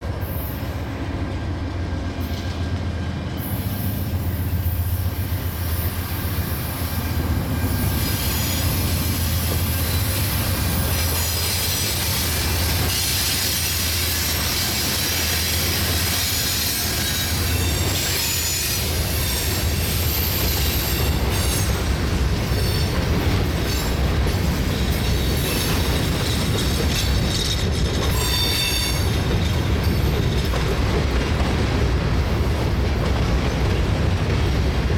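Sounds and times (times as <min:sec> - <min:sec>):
steel wheels squealing on rails: 0:00.0 - 0:34.8
diesel locomotives passing: 0:00.0 - 0:34.9.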